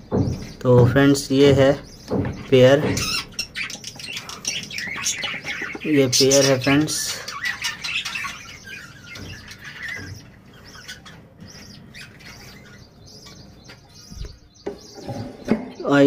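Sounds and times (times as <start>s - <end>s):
lovebirds twittering: 0.0s - 16.0s.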